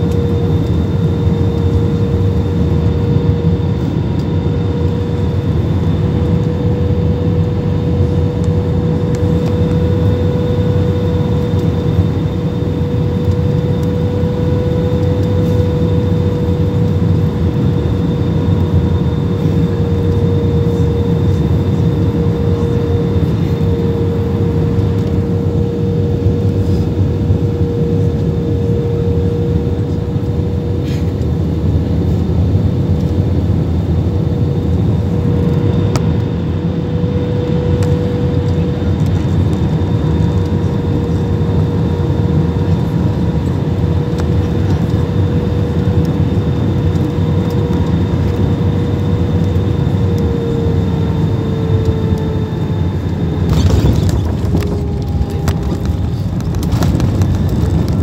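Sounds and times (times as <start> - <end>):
airplane cabin engine rumble: 0.0 - 58.0
engine whine: 0.0 - 58.0.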